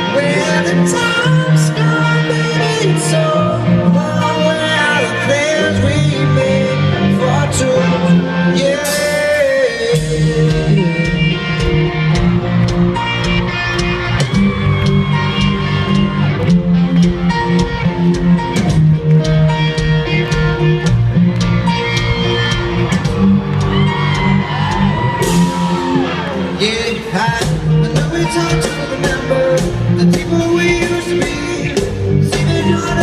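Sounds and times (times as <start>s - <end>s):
band playing instrumental: 0.0s - 33.0s.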